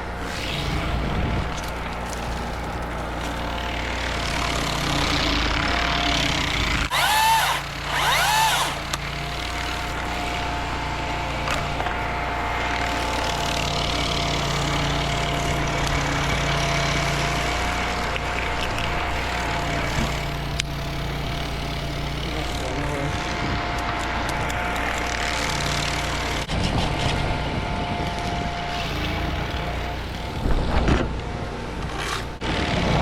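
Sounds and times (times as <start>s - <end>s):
chainsaw engine idling and revving: 0.0s - 33.0s.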